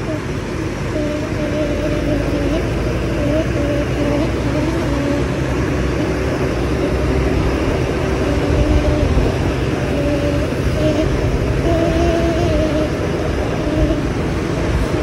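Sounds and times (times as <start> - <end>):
musical bus horn tune: 0.0 - 15.0
wind and road noise rumble: 0.0 - 15.0.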